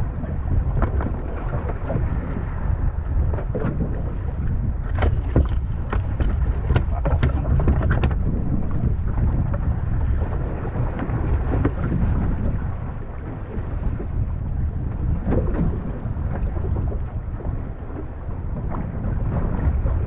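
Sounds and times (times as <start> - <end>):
boat in rough water: 0.0 - 20.0
wind on microphone: 0.0 - 20.0.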